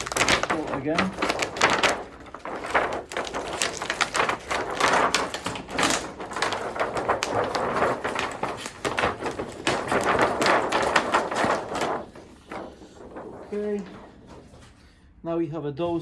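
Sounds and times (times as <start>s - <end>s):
plastic sheets crinkling: 0.0s - 15.1s.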